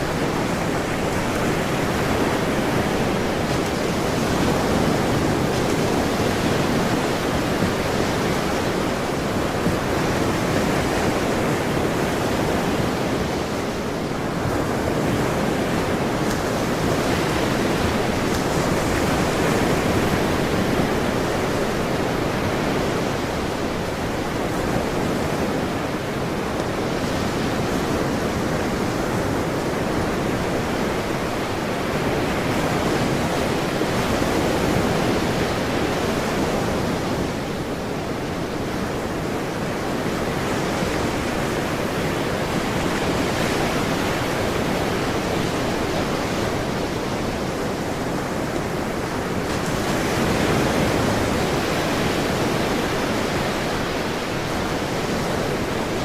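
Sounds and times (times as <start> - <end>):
ocean waves on a shore: 0.0 - 56.0.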